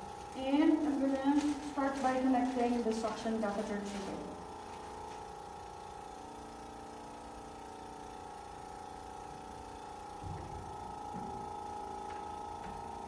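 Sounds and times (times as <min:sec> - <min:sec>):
suction pump whirring hum: 0:00.0 - 0:13.0.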